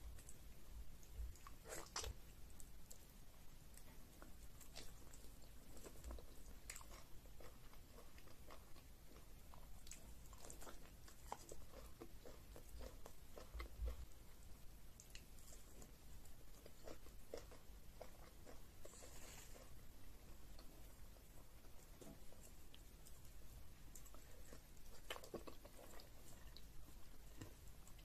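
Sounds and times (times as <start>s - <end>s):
person chewing meat: 0.1s - 28.0s.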